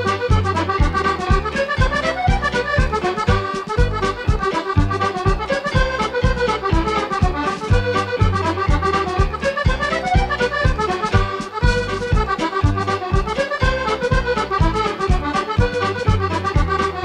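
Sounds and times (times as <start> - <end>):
background music with bass beat: 0.0 - 17.0.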